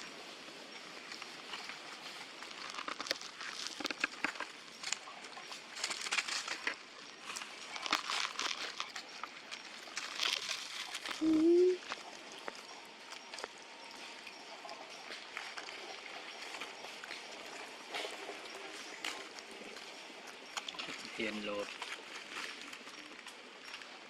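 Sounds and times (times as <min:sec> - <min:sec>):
crinkling rustles: 0:00.2 - 0:24.0.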